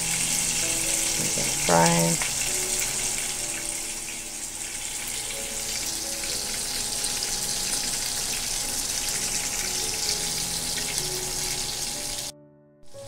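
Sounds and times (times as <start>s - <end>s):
sausage sizzling in a pan: 0.0s - 12.3s.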